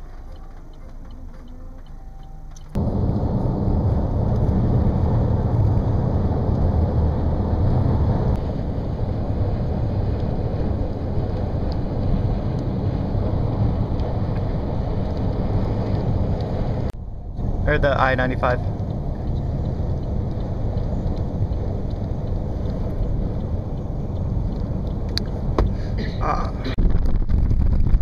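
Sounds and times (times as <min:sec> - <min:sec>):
wind and road noise in car: 0:00.0 - 0:28.0.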